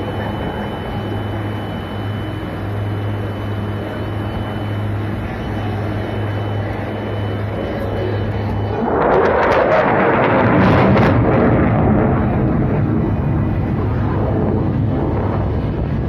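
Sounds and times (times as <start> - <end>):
jet aircraft roar: 0.0 - 16.0.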